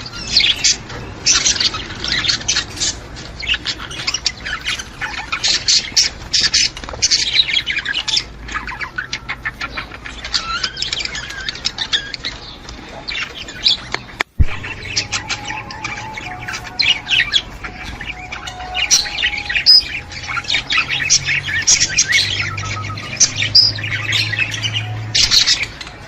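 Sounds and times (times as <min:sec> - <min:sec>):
budgerigars chattering and warbling: 0:00.0 - 0:26.0.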